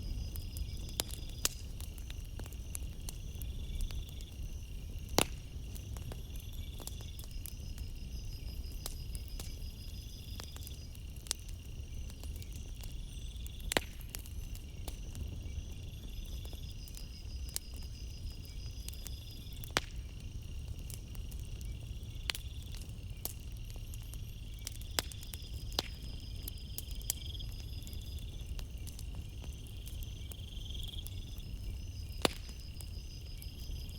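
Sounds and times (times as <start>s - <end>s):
campfire crackling and popping: 0.0s - 33.9s
crickets chirping: 0.0s - 33.9s.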